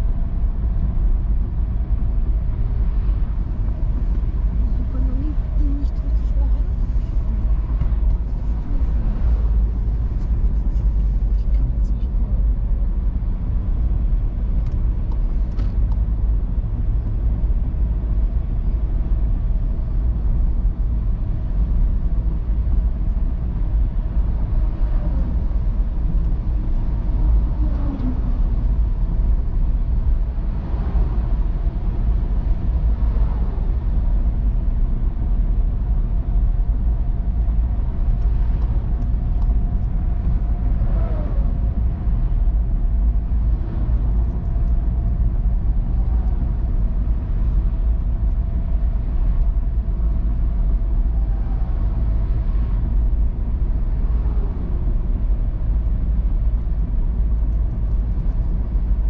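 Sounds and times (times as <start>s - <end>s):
car tyres and engine rumble: 0.0s - 59.0s.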